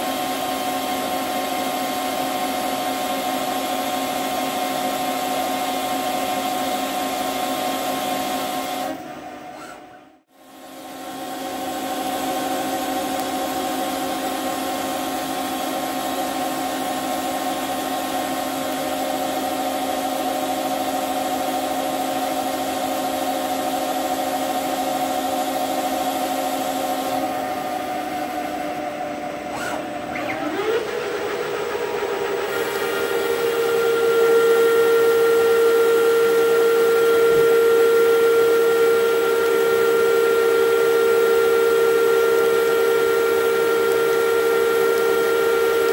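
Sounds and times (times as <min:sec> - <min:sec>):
lathe whine: 0:00.0 - 0:45.9.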